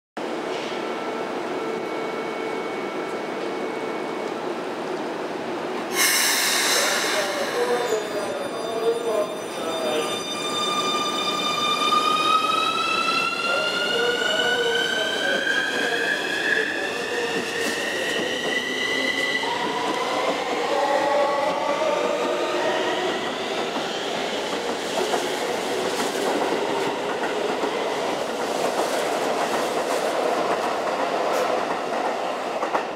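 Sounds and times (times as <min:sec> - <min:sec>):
second train passing: 0:00.2 - 0:32.9.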